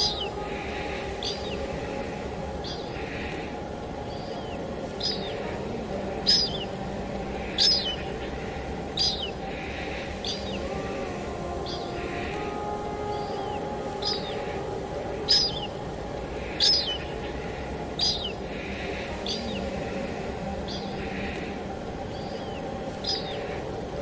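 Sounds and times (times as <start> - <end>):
low sustained tones: 0.0 - 24.0
rain hissing: 0.0 - 24.0.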